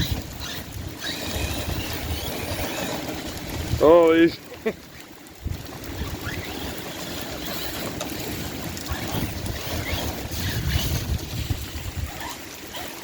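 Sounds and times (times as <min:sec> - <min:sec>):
toy truck motor whine: 0:00.0 - 0:03.8, 0:05.6 - 0:13.0
wheels splashing on wet ground: 0:00.0 - 0:13.0.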